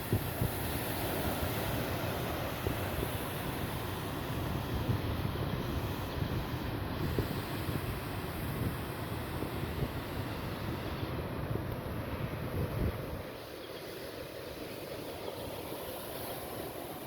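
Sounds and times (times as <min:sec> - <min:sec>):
sea wash: 0:00.0 - 0:17.0
wind buffeting microphone: 0:00.0 - 0:17.0.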